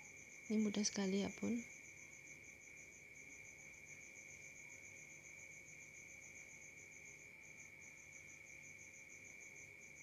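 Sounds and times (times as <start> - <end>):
insect pulsing chirp: 0.0 - 10.0
insects trilling: 0.0 - 10.0.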